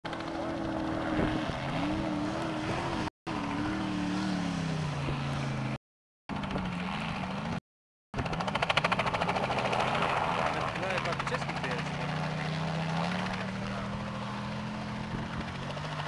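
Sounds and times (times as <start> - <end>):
buggy engine revving: 0.1 - 7.6, 8.2 - 16.0.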